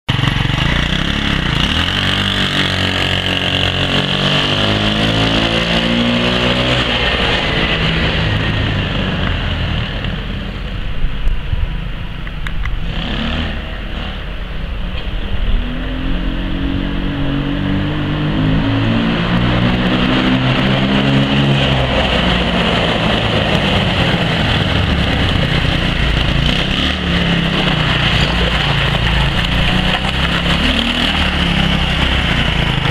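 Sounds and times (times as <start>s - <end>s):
go-kart engine revving: 0.1s - 10.9s, 11.7s - 32.9s.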